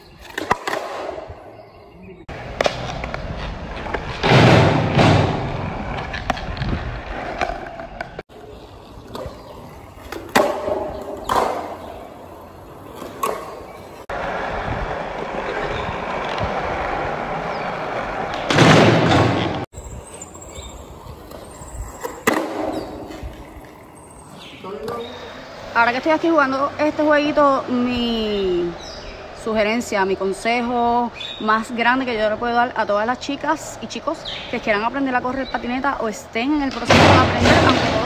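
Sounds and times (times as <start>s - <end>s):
skateboard wheels rolling on concrete: 0.0s - 38.0s.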